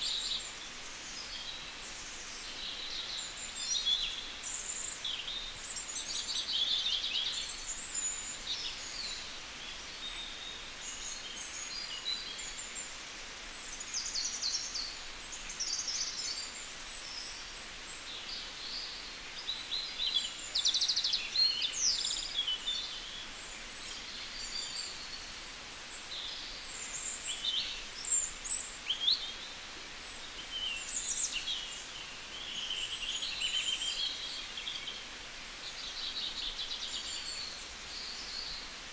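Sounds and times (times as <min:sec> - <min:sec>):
faint outdoor hiss: 0:00.0 - 0:38.9
small birds chirping and trilling: 0:00.0 - 0:38.9.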